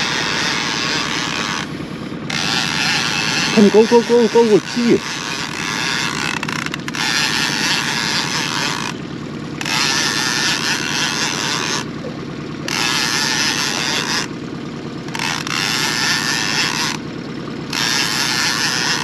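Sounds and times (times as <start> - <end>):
fishing reel cranking: 0.0 - 1.7, 2.3 - 9.0, 9.6 - 14.3, 15.1 - 17.0, 17.7 - 19.0.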